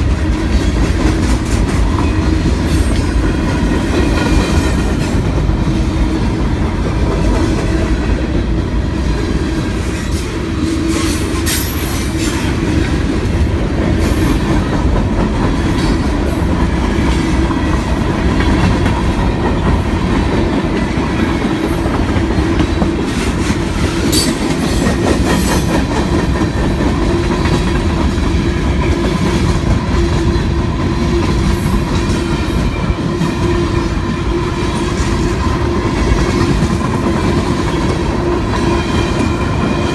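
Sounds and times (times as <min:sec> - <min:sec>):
train wheels clacking over rail joints: 0:00.0 - 0:08.3, 0:09.3 - 0:39.9.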